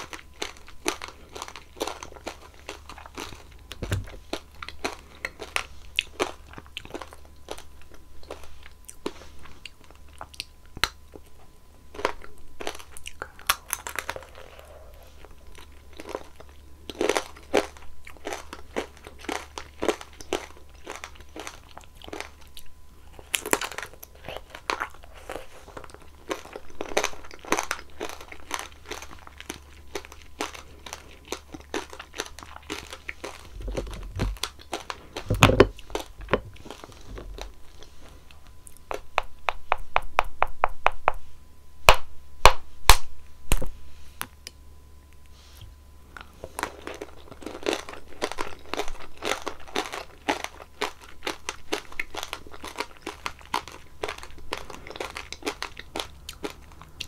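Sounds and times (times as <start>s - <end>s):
hard candy crunching while chewed: 0.0s - 40.3s, 46.0s - 57.0s.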